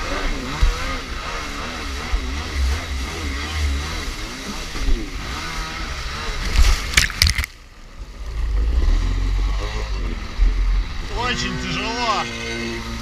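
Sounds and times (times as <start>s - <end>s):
jet ski engine revving: 0.0s - 7.0s, 7.6s - 13.0s.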